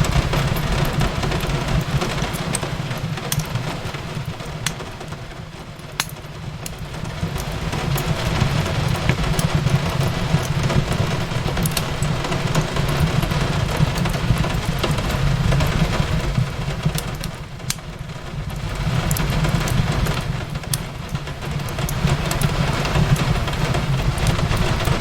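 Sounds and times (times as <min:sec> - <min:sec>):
rain hissing: 0:00.0 - 0:25.0
wood fire crackling: 0:00.0 - 0:25.0.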